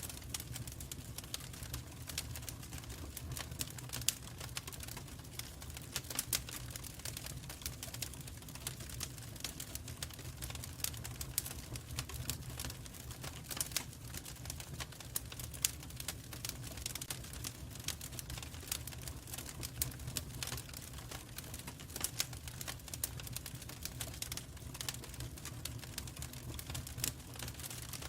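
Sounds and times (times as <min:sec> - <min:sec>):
low rumble of burning: 0:00.0 - 0:28.0
wood fire crackling: 0:00.0 - 0:28.0.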